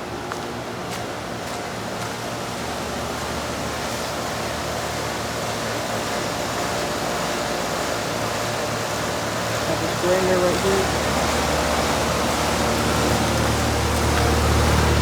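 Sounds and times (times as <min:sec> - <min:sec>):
heat pump fan running: 0:00.0 - 0:15.0.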